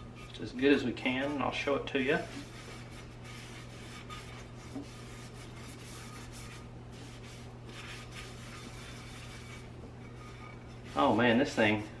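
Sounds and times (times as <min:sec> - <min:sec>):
towel rubbing cast iron skillet: 0:00.0 - 0:12.0.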